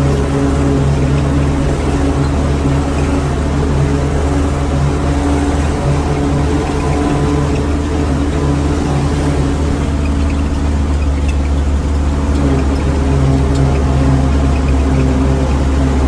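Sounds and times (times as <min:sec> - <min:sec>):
diesel bus engine drone: 0:00.0 - 0:16.0.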